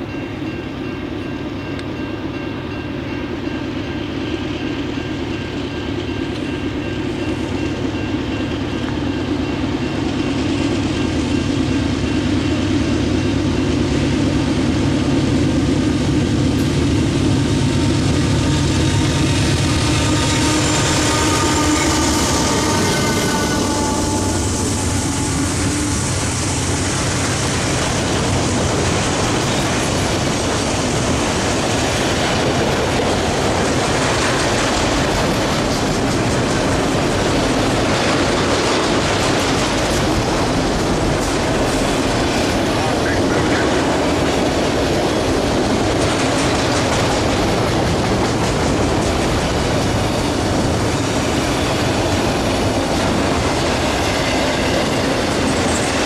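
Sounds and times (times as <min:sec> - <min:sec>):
diesel locomotive engine hum: 0:00.0 - 0:56.0
train wheels clickety-clack: 0:00.0 - 0:56.0.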